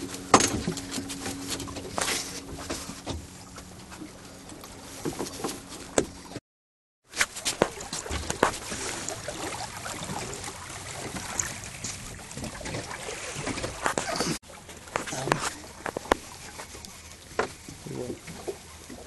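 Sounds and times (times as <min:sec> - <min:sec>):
water lapping against boat: 0:00.0 - 0:06.4, 0:07.0 - 0:19.0.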